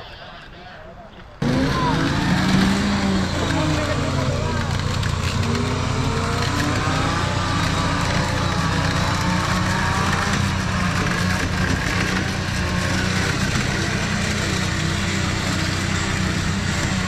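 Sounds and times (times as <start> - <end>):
engine running at low revs: 1.4 - 17.0.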